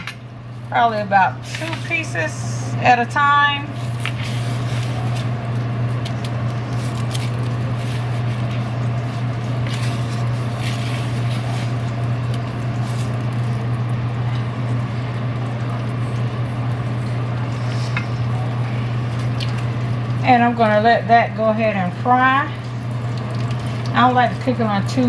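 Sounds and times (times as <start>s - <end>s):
steady low hum: 0.0s - 25.0s
fish frying in oil: 1.4s - 25.0s.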